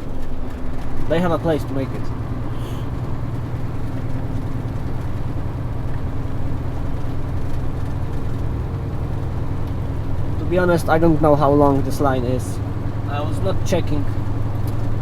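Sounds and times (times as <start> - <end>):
road noise: 0.0 - 15.0
truck diesel engine drone: 0.0 - 15.0.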